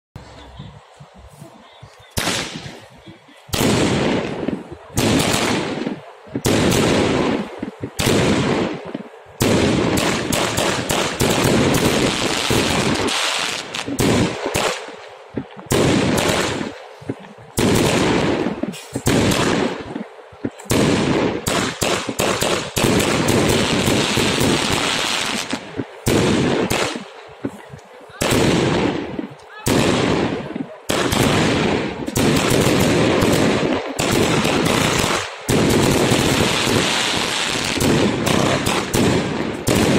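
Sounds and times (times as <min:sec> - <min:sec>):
fireworks bangs: 0:00.2 - 0:39.9
fireworks crackling: 0:00.2 - 0:39.9.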